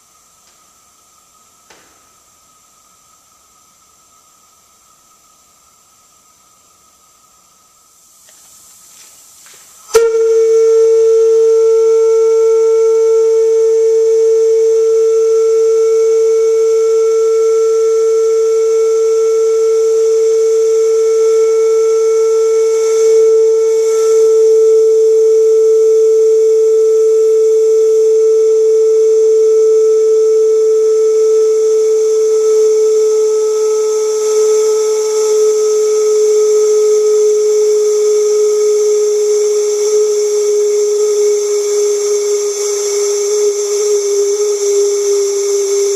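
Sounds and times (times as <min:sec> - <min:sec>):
steam whistle blowing: 0:00.0 - 0:45.9.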